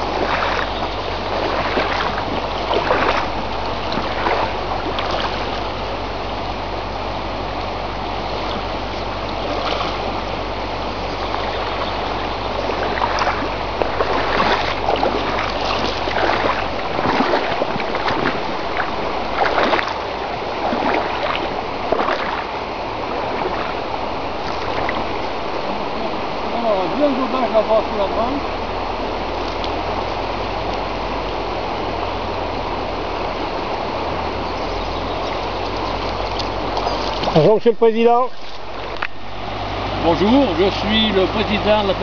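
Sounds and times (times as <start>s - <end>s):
low steady hum: 0.0s - 42.0s
river water splashing over stones: 0.0s - 42.0s.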